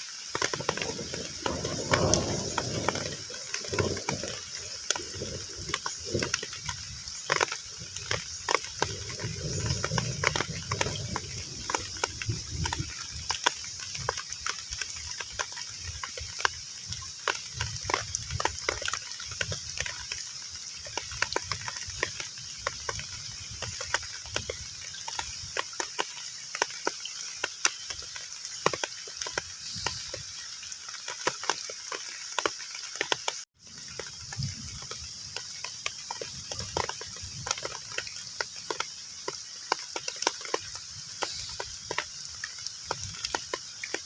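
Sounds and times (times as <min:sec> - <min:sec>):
heavy rain on water: 0:00.0 - 0:44.0.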